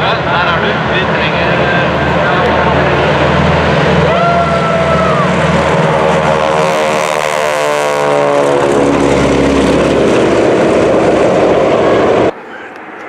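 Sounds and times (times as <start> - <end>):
propeller aircraft passing: 0.0 - 13.0.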